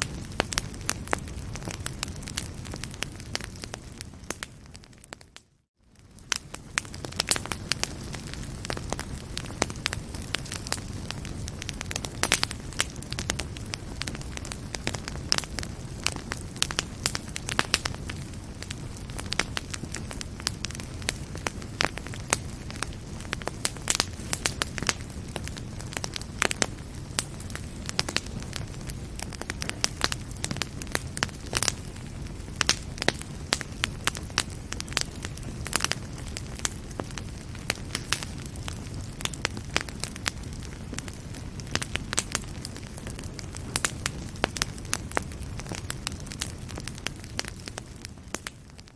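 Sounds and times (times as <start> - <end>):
low rush of flames: 0.0 - 5.2, 5.8 - 48.9
fire crackling and popping: 0.0 - 48.9.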